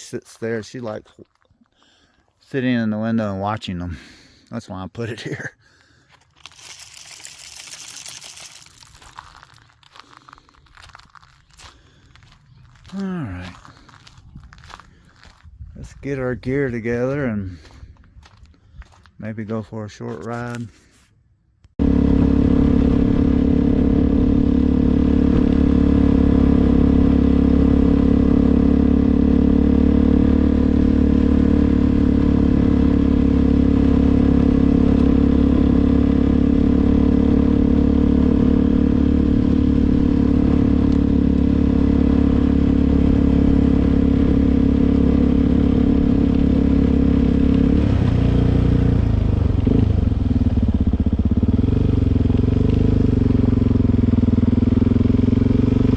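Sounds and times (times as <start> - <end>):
motorcycle engine running: 6.9 - 19.0, 21.8 - 55.9.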